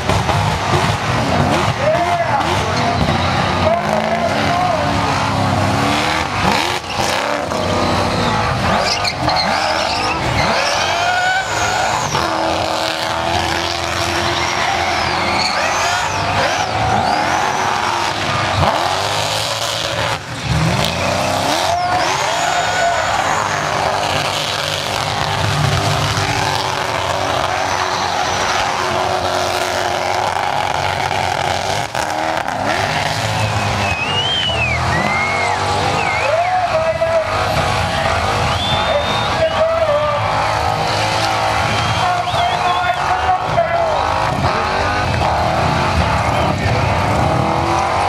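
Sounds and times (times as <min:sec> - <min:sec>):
engine revving at high revs: 0:00.0 - 0:48.0
tyres squealing: 0:01.5 - 0:48.0.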